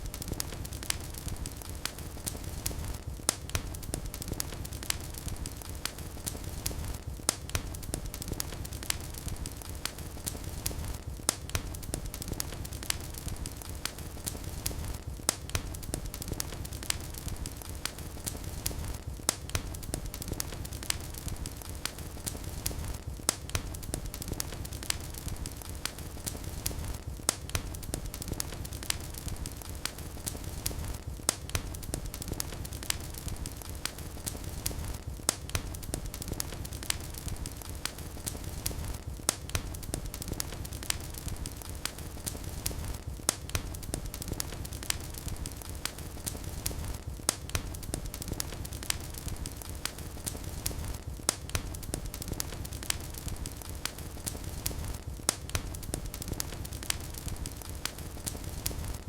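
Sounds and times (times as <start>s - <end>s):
low rumble of burning: 0.0s - 59.0s
wood fire crackling and popping: 0.0s - 59.0s.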